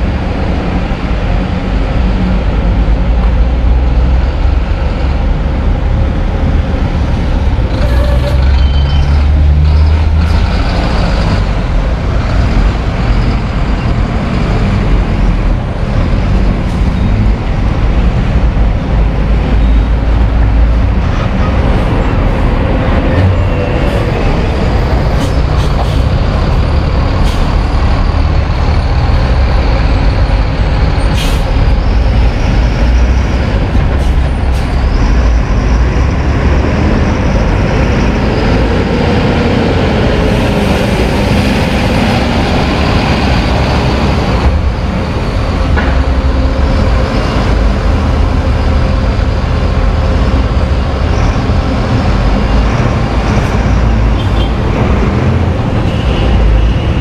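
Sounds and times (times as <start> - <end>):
bus engine rumble: 0.0 - 57.0.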